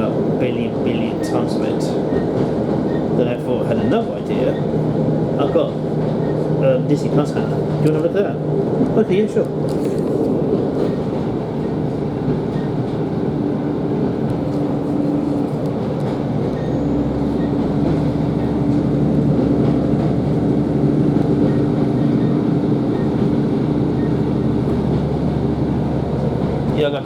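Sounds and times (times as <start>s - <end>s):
train wheels rumbling on rails: 0.0s - 27.0s
diesel engine drone: 4.3s - 27.0s.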